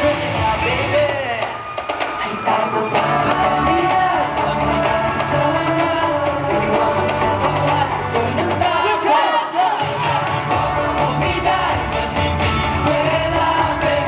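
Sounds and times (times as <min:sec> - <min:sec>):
guitar: 0:00.0 - 0:09.2, 0:09.8 - 0:14.0
drums: 0:00.0 - 0:14.0
person singing: 0:00.0 - 0:14.0.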